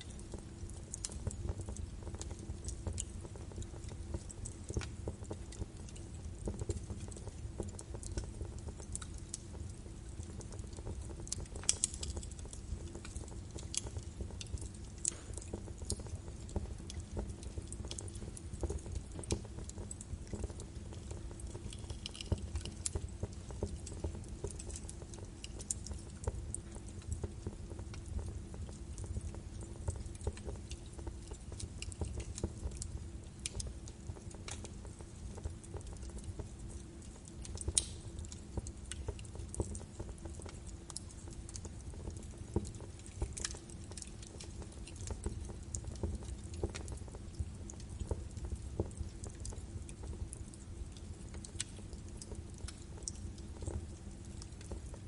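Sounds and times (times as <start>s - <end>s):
logs crackling and popping: 0.0s - 55.0s.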